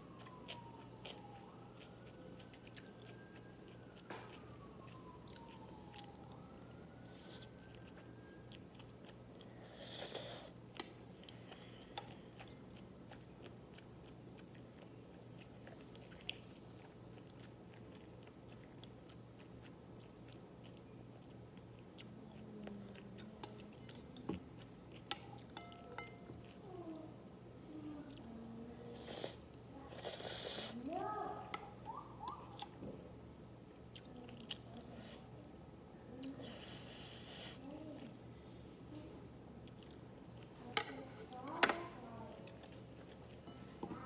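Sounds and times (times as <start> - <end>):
chewing noodles: 0.0 - 27.1, 27.8 - 32.8, 33.7 - 38.2, 39.6 - 44.0
faint low hum: 0.0 - 44.0.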